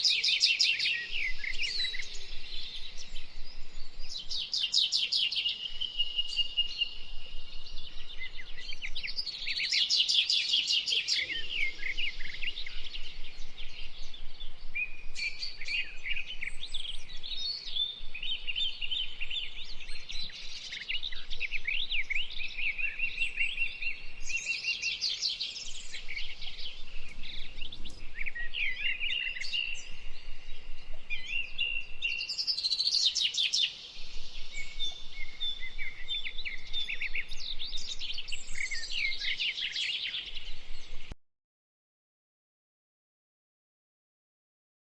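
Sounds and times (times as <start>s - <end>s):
songbirds singing and calling: 0.0s - 41.2s.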